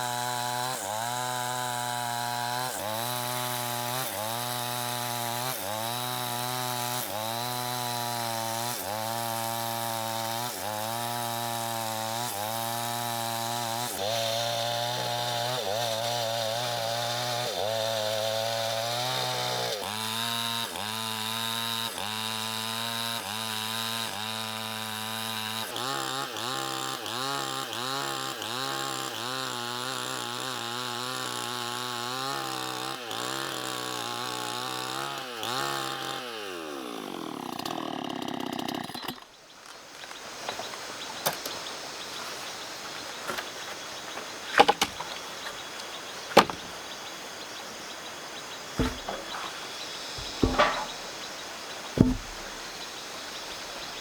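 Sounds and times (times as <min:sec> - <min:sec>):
chainsaw cutting wood: 0:00.0 - 0:39.4, 0:40.4 - 0:54.0.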